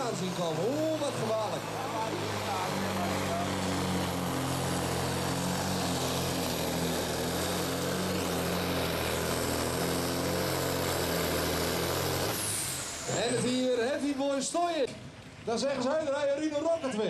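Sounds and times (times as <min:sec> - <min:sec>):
diesel truck engine under heavy load: 0:00.0 - 0:16.1.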